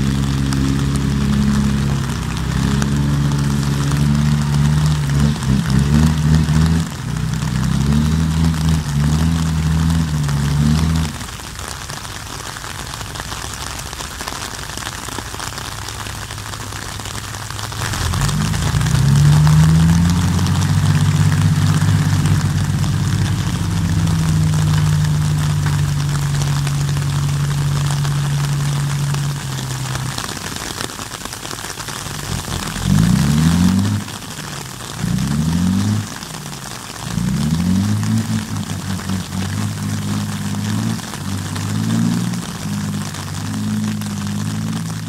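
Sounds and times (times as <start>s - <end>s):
diesel truck engine: 0.0s - 45.0s.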